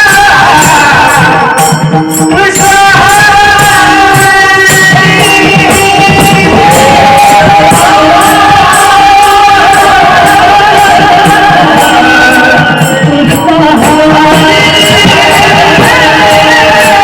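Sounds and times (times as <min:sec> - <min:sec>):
bright percussion beat: 0:00.0 - 0:17.0
instrumental accompaniment: 0:00.0 - 0:17.0
man singing: 0:00.0 - 0:17.0.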